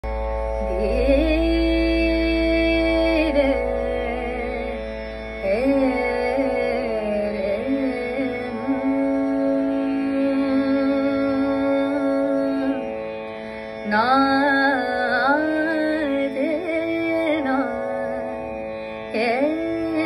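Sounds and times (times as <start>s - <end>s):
woman singing with glides: 0.6s - 4.8s, 5.4s - 13.0s, 13.8s - 18.4s, 19.1s - 20.0s.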